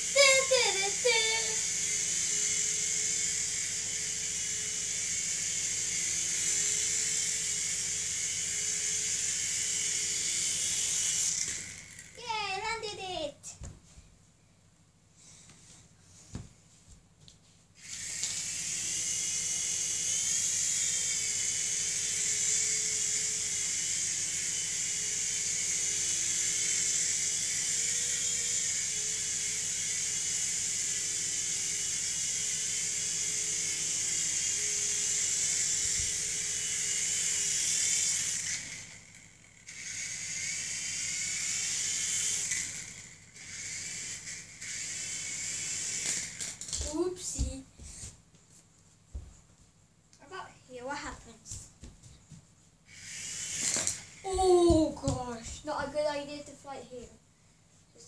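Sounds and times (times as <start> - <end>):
toy helicopter motors whirring: 0.0 - 13.4, 17.8 - 48.2, 50.2 - 51.7, 52.9 - 57.2.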